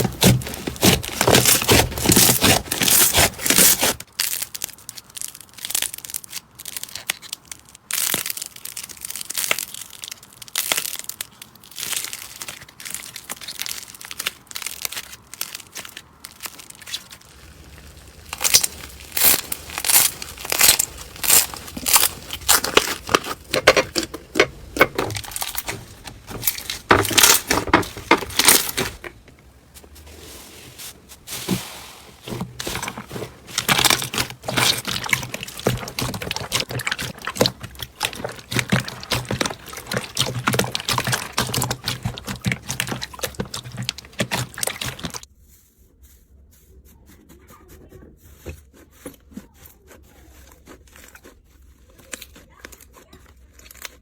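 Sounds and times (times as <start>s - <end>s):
soft slime squishing: 0.0s - 54.0s.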